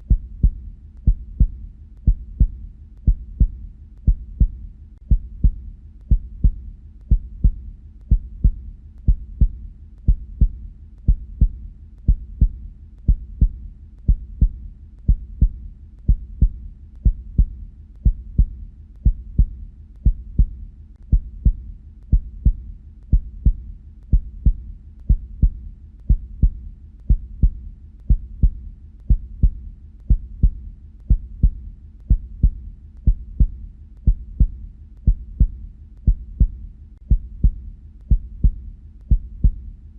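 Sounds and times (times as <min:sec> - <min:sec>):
heartbeat double thumps: 0:00.0 - 0:39.8.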